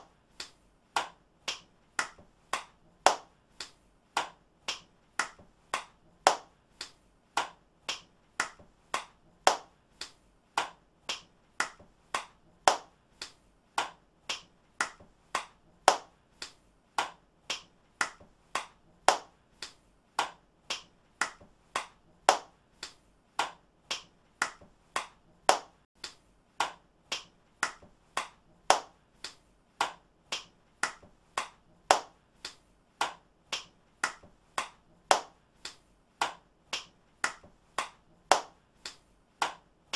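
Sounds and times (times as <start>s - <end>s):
hand clapping: 0.0s - 39.9s.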